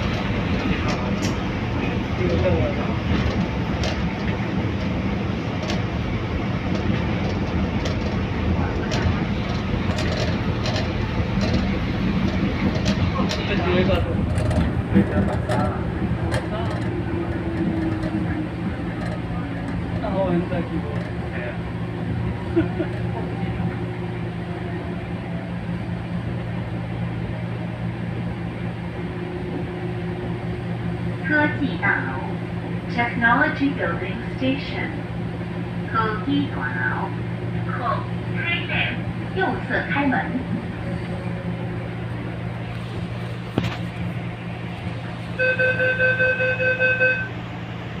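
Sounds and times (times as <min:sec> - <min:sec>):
train low hum: 0:00.0 - 0:48.0.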